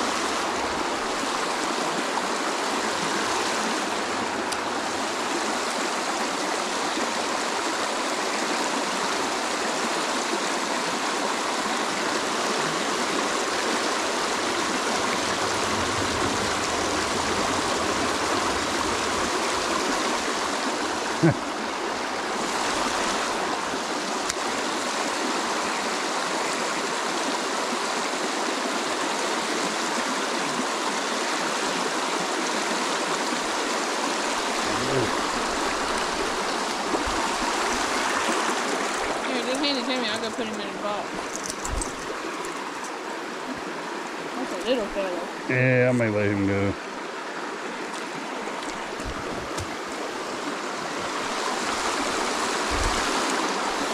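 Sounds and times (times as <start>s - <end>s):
creek rushing over stones: 0.0s - 53.9s.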